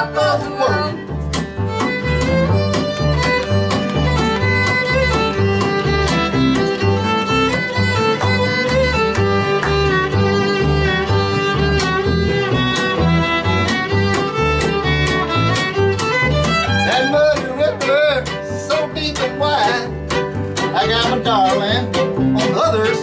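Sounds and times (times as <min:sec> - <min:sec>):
steady low beat: 0:00.0 - 0:22.9
fiddle melody: 0:00.0 - 0:23.0
strummed guitar: 0:00.0 - 0:23.0.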